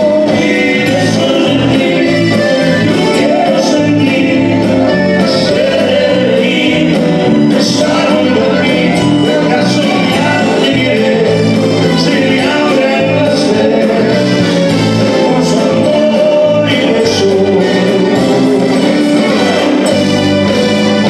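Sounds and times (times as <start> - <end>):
man singing: 0.0 - 20.0
live band playing: 0.0 - 21.0
repeating bass line: 0.0 - 21.0.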